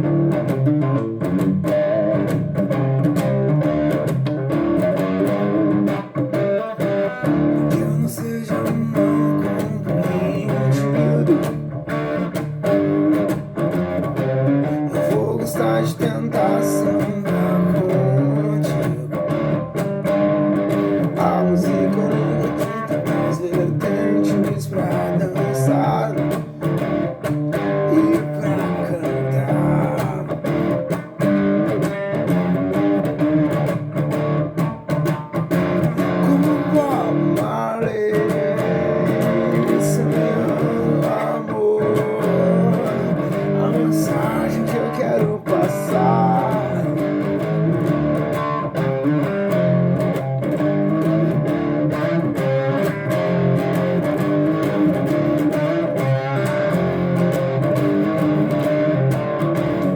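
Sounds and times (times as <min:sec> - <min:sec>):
plucked guitar music: 0:00.0 - 0:59.9.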